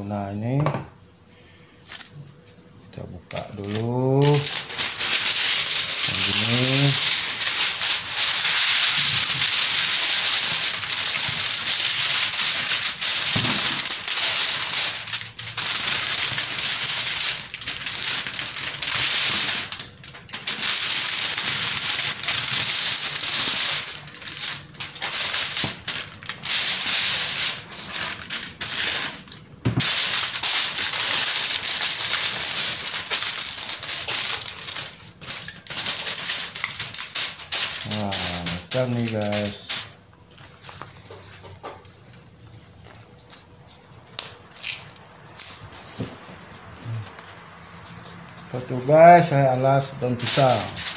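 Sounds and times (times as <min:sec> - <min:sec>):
aluminium foil crinkling: 0:01.5 - 0:50.9.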